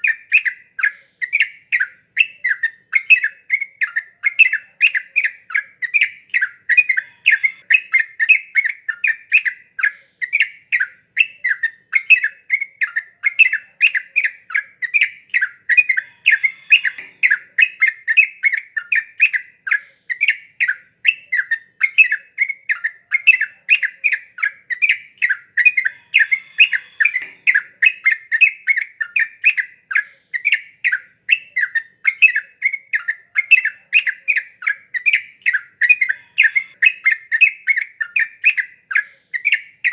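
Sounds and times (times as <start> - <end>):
bulbul singing bubbling chirps: 0.0 - 9.5, 10.2 - 29.7, 30.4 - 38.6.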